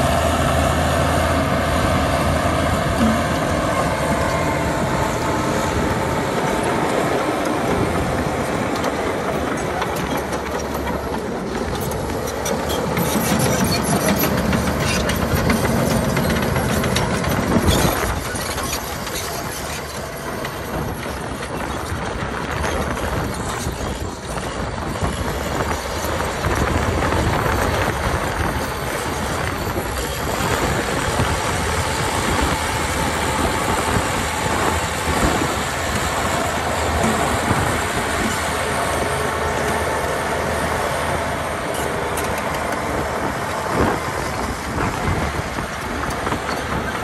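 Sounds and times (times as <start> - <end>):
bulldozer diesel engine: 0.0 - 47.0
steel tracks clattering: 0.0 - 47.0.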